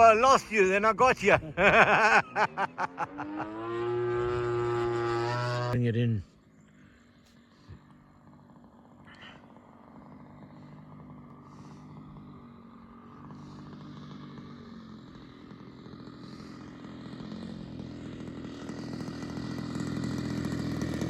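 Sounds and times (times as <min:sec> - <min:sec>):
model plane engine buzzing: 0:01.7 - 0:05.8, 0:06.4 - 0:21.0.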